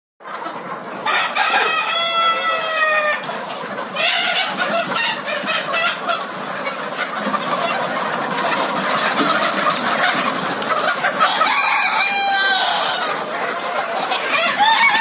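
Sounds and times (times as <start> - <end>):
chickens clucking: 0.2 - 15.0.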